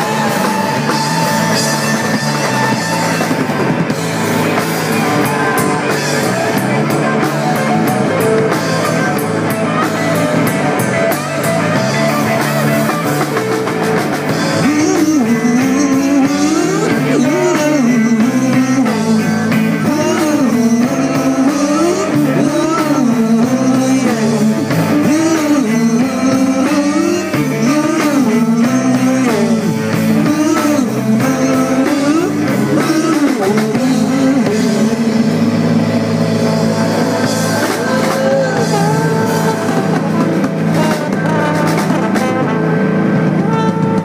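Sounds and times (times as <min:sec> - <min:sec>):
live rock band playing: 0:00.0 - 0:44.0
melodic lead line bending: 0:00.0 - 0:44.0.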